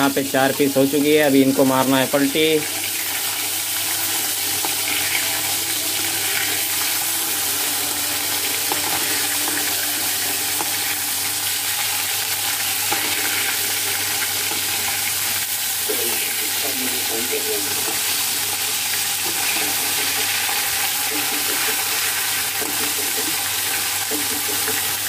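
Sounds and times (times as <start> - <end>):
fish sizzling in oil: 0.0 - 25.0.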